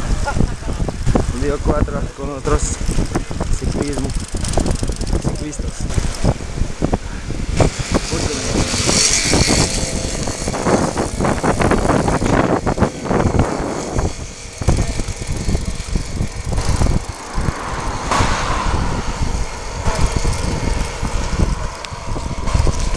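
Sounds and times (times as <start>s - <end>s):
road noise: 0.0s - 22.9s
wind buffeting microphone: 0.0s - 22.9s.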